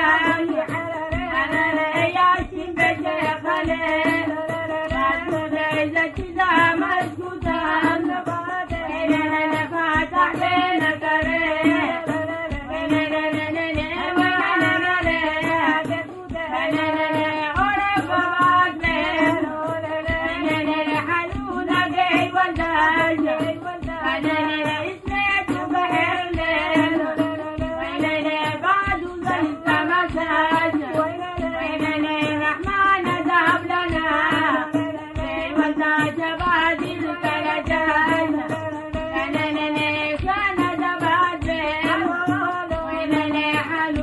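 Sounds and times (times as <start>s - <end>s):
tambourine and hand percussion beat: 0.0s - 44.0s
women singing together: 0.0s - 44.0s.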